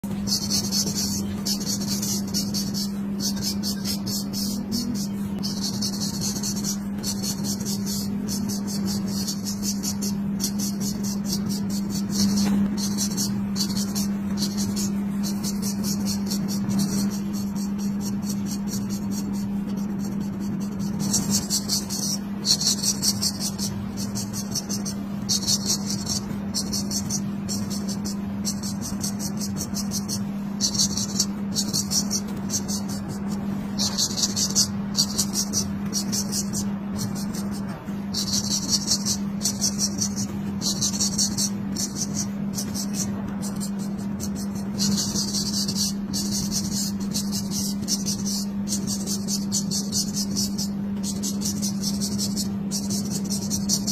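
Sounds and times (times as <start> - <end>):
razor scraping hair: 0.0 - 53.9
steady low hum: 0.0 - 53.9.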